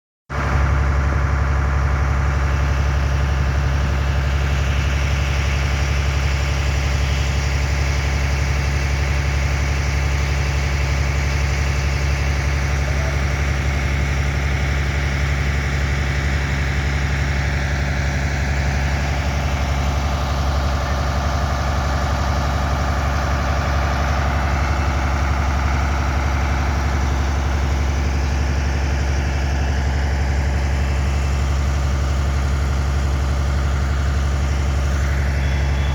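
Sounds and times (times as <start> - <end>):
engine idling: 0.3 - 35.9.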